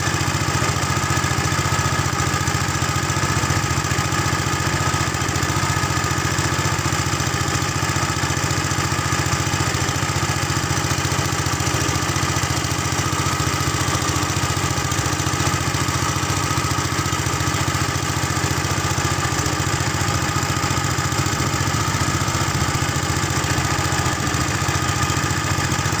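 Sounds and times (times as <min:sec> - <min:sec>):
small engine running steadily: 0:00.0 - 0:26.0.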